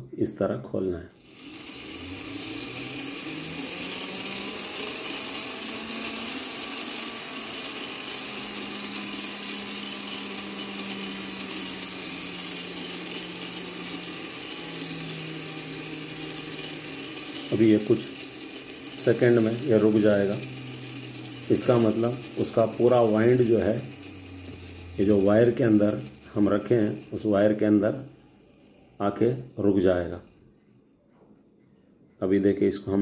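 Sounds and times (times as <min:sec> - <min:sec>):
clock gear train whirring: 0:01.2 - 0:31.0.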